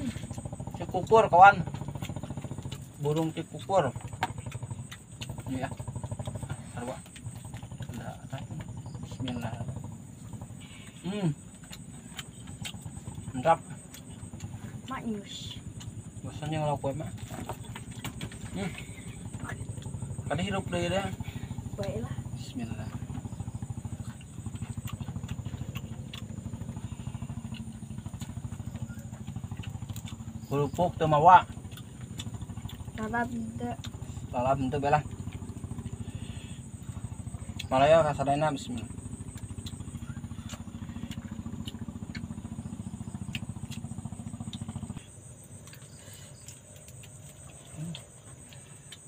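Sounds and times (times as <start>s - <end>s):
small engine running: 0.0s - 49.0s.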